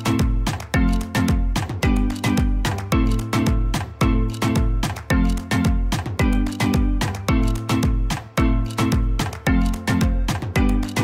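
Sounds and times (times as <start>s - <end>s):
upbeat music with driving beat: 0.0s - 11.0s.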